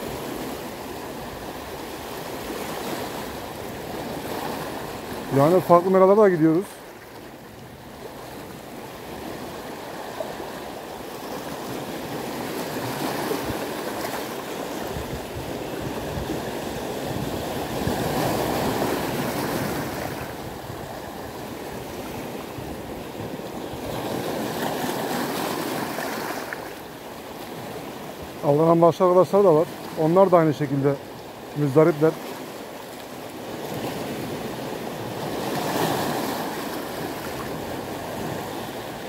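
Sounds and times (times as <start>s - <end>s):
waves breaking on rocky shore: 0.0s - 39.0s.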